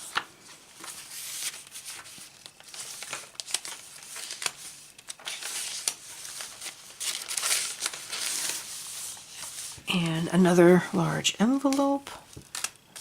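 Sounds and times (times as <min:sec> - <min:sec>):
paper pages rustling and crinkling: 0:00.0 - 0:10.0, 0:11.6 - 0:13.0.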